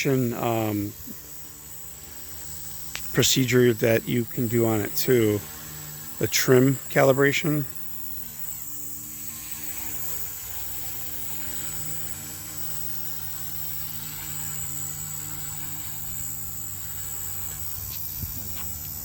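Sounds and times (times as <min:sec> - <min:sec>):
helicopter rotors buzzing: 0:00.0 - 0:19.0
thin high whine: 0:00.0 - 0:19.0.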